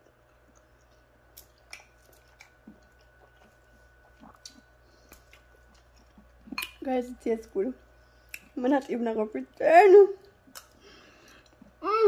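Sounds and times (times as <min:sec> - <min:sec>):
faint chewing: 0:00.0 - 0:09.0, 0:10.2 - 0:11.8.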